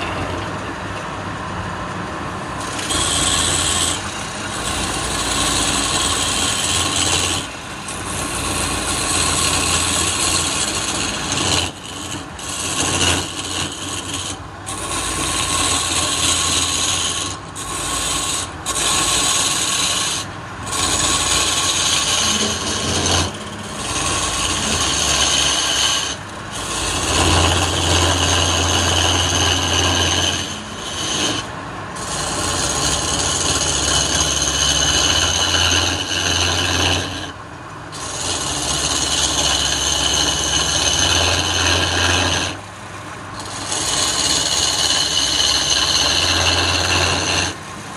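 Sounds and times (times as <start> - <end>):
lathe tool scraping spinning wood: 2.5 - 47.9.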